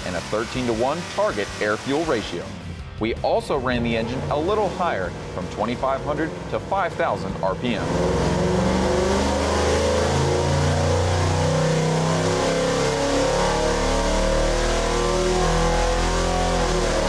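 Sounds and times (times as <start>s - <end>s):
engine revving under load: 0.0s - 17.0s.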